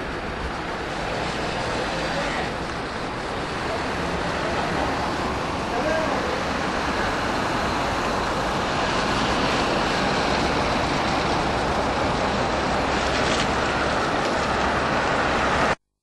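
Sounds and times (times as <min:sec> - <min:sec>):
car wash machinery rushing: 0:00.0 - 0:15.8
van driving: 0:00.0 - 0:15.8.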